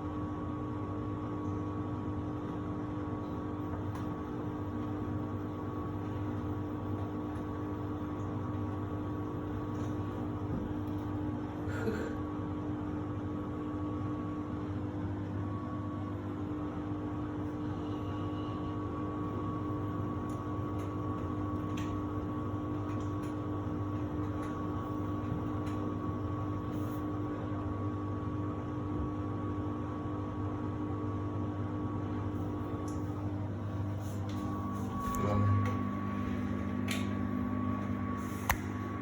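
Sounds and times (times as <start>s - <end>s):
washer-dryer humming: 0.0s - 39.0s.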